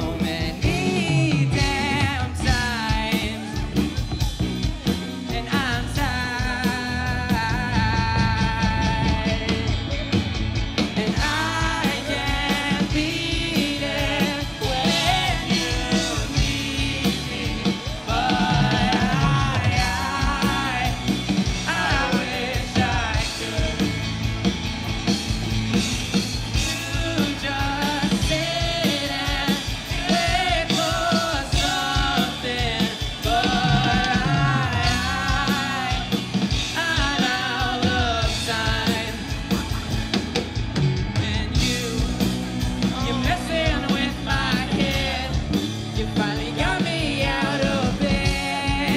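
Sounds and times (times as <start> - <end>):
person singing lead vocal: 0.0 - 4.3, 5.2 - 24.4, 26.4 - 40.2, 40.8 - 48.9
drums: 0.0 - 48.9
electric guitars: 0.0 - 48.9.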